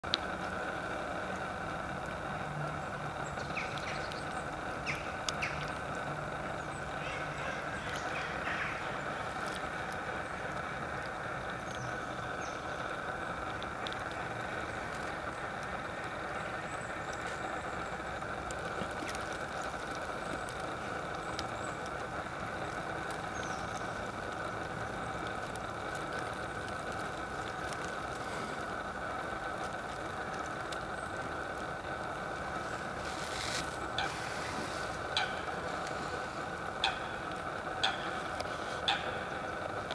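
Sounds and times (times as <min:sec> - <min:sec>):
outdoor background hum and hiss: 0:00.0 - 0:39.9.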